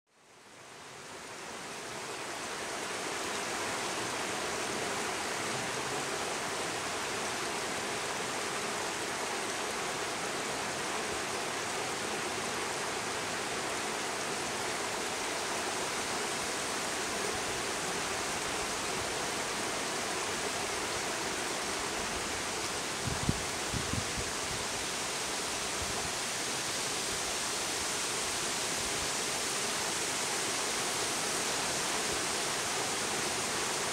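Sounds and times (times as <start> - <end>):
river running over rocks: 0.2 - 33.9.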